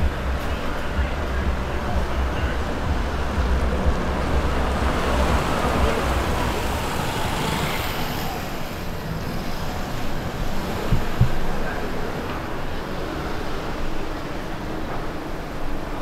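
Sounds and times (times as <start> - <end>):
vehicle driving past: 0.0 - 14.0.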